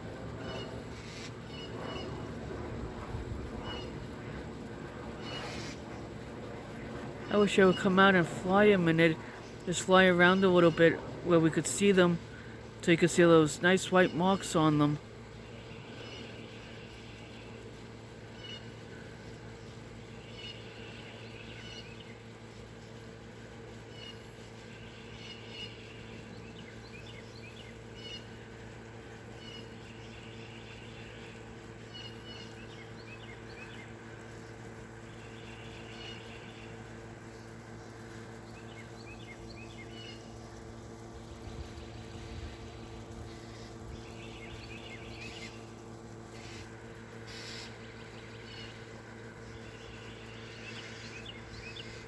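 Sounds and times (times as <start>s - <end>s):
steady low hum: 0.0s - 52.0s
small birds chirping: 3.4s - 52.0s.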